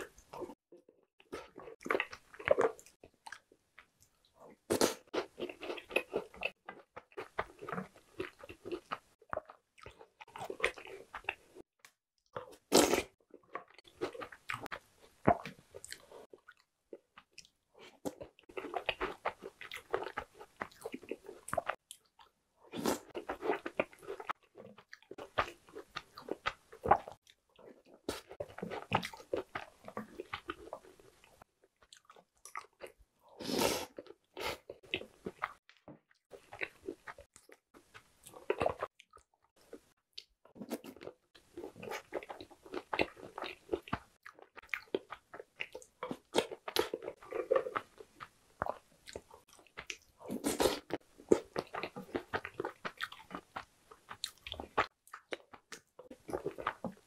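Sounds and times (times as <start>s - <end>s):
wet chewing mouth sounds: 1.2s - 57.0s.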